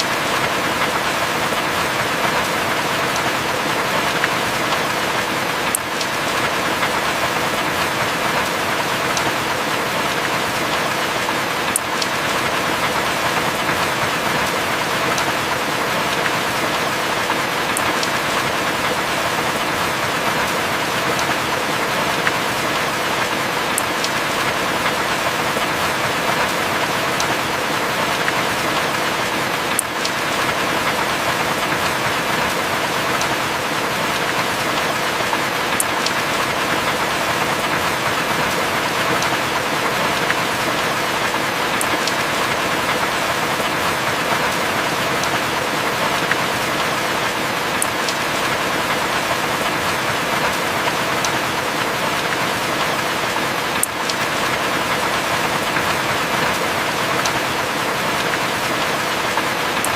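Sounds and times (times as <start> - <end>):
heavy rain hissing: 0.0 - 59.9
raindrop ticks: 0.0 - 59.9.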